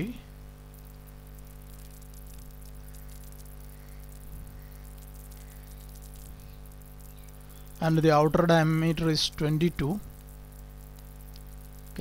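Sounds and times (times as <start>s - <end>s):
hiss and faint crackle: 0.0s - 12.0s
low electrical hum: 0.0s - 12.0s.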